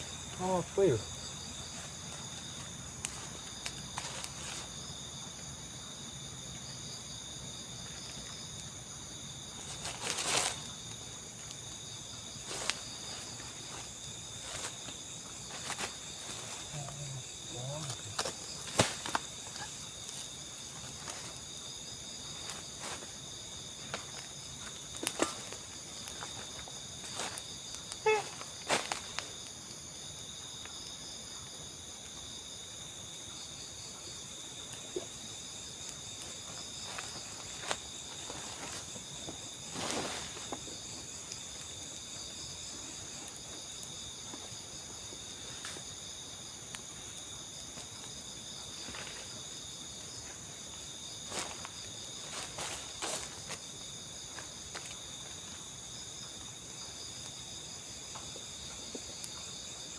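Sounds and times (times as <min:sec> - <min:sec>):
crickets and night insects chirping: 0:00.0 - 0:59.9.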